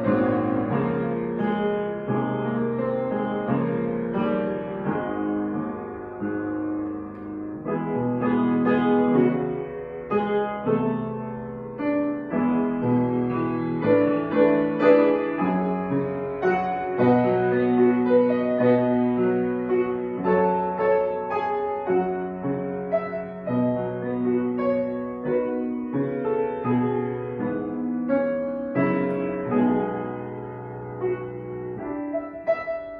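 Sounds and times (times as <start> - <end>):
piano music: 0.0 - 32.9.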